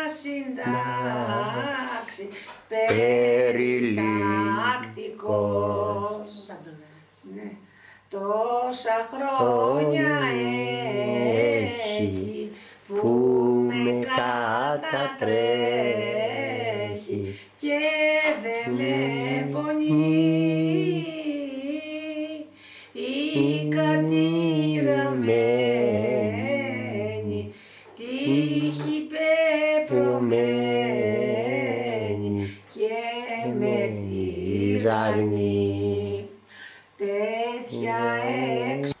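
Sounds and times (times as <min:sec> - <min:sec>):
woman singing unaccompanied: 0:00.0 - 0:39.0.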